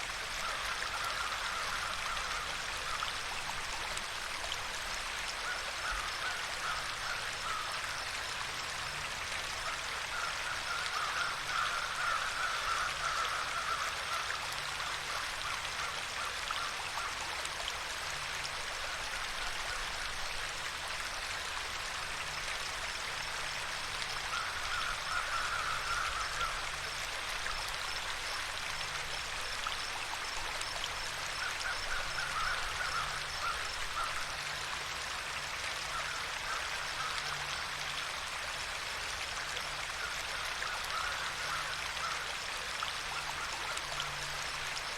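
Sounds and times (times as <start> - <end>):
running water hiss: 0.0 - 44.9.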